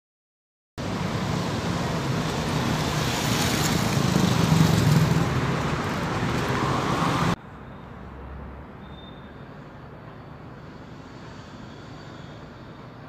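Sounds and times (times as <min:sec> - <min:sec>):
road traffic noise: 0:00.8 - 0:13.0.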